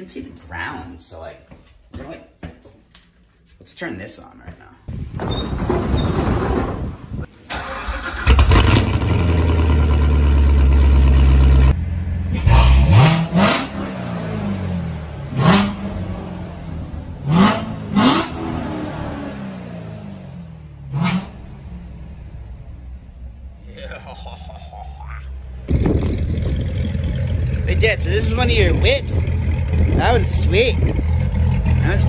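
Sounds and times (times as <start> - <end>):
car engine starting: 4.9 - 32.0
car engine revving: 5.6 - 32.0.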